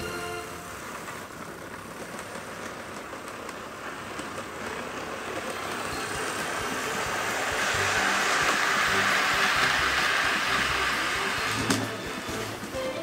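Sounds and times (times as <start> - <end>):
model train whirring rattle: 0.7 - 13.0.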